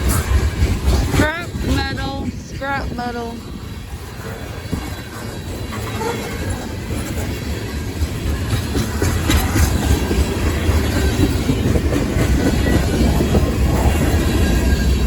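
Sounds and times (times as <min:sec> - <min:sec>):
freight train rumbling past: 0:00.0 - 0:15.0
train wheel clacks: 0:00.0 - 0:15.0.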